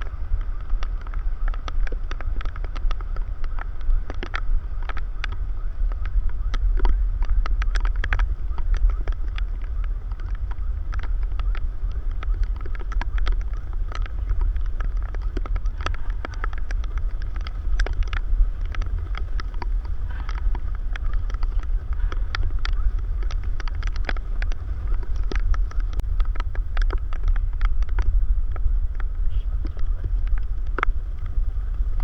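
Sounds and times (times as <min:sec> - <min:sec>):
raindrop ticks: 0:00.0 - 0:32.0
wind rumble on microphone: 0:00.0 - 0:32.0.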